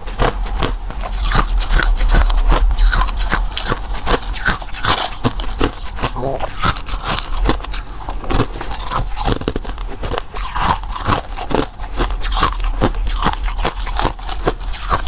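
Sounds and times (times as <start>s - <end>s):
chewing and crunching food: 0.0s - 15.0s
steady low hum: 0.0s - 15.0s.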